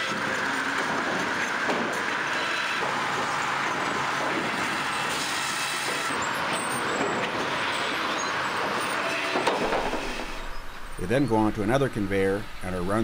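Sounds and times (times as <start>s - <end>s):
log conveyor machinery running: 0.0s - 13.0s.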